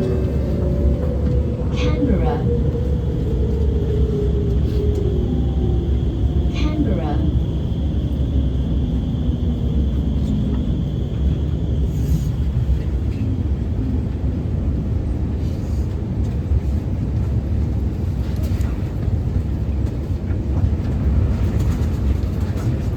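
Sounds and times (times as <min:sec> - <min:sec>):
train wheels rumbling: 0:00.0 - 0:22.9.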